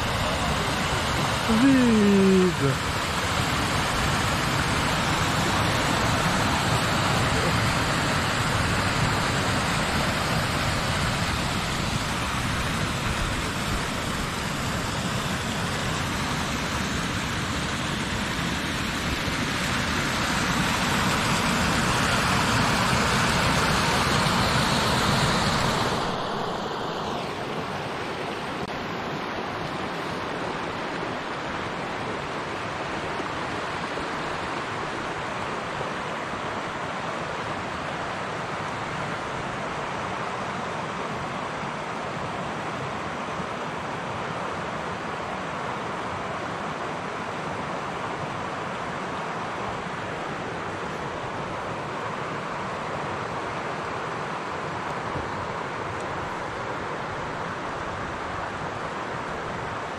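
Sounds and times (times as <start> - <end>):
river flowing over riffles: 0.0 - 59.9
waterfall rushing over rocks: 0.0 - 59.9.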